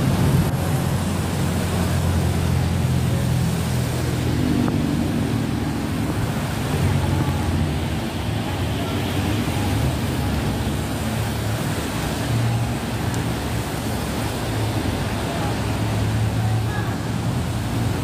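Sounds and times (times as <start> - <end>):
heavy rain: 0.0 - 18.0
motorcycle and car engines: 0.0 - 18.0
tyres hissing on wet road: 0.0 - 18.0.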